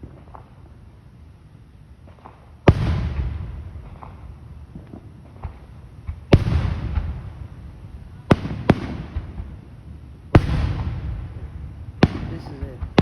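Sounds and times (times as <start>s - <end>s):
fireworks booming: 0.0s - 0.8s, 2.0s - 13.0s
rolling echo: 2.0s - 13.0s.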